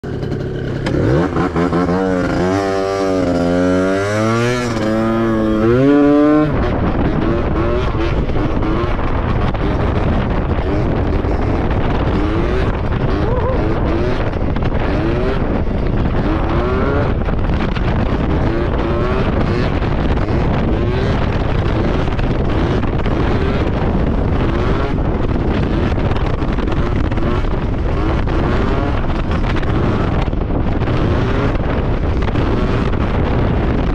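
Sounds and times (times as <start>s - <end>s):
scooter engine revving: 0.0s - 33.9s
wind noise on microphone: 0.0s - 33.9s.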